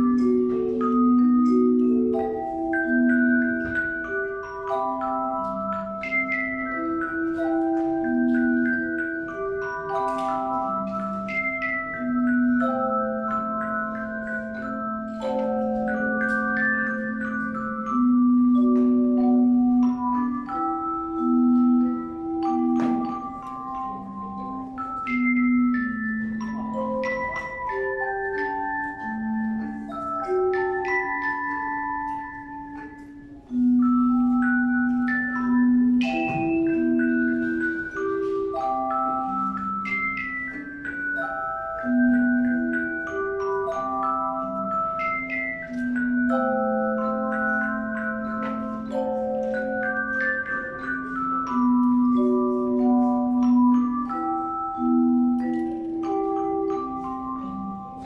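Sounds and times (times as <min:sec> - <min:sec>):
tone chimes playing melody: 0:00.0 - 0:58.0.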